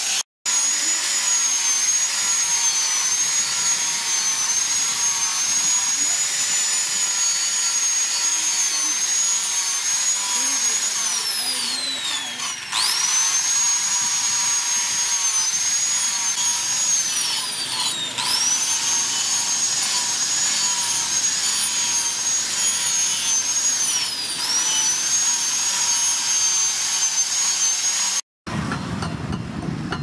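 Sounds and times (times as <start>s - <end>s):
angle grinder sanding steel: 0.0s - 28.2s.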